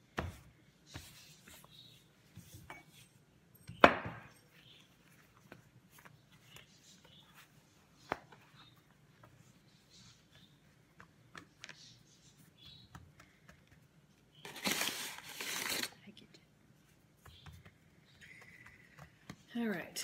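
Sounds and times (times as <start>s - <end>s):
hands tapping and rubbing dough: 0.0s - 14.5s, 16.8s - 20.0s.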